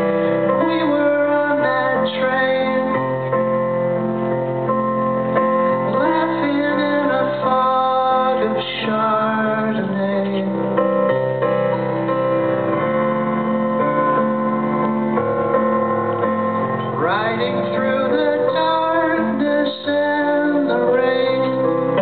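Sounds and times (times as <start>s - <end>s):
live band with keyboard chords: 0.0s - 22.0s.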